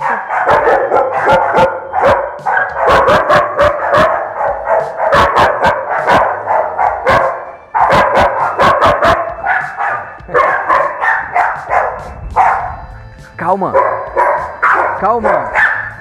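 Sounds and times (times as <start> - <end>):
dog barking rapidly: 0.0 - 12.8, 13.7 - 16.0.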